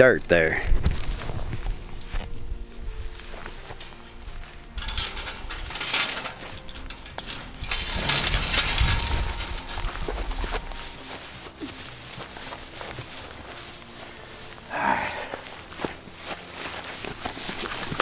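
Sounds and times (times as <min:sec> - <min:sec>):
wire fence rattling and clinking: 0:03.4 - 0:18.0.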